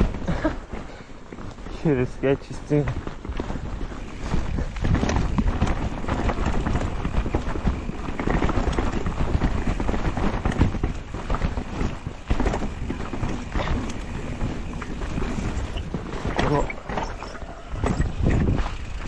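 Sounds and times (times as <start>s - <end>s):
bike tyres clattering over trail: 0.0s - 19.0s
wind noise on microphone: 3.1s - 19.0s.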